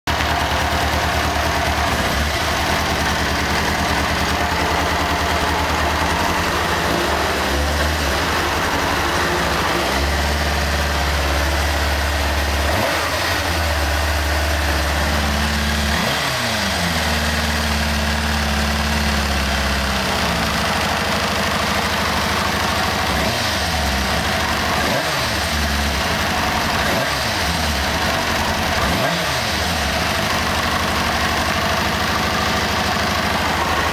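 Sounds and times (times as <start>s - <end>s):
engine clicking noise: 0.1s - 33.9s
motorcycle engine idling: 0.1s - 33.9s.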